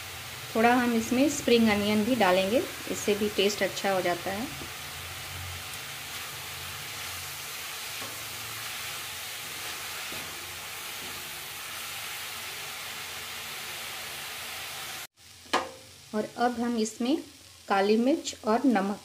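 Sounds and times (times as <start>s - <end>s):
vegetables sizzling: 0.0s - 19.0s.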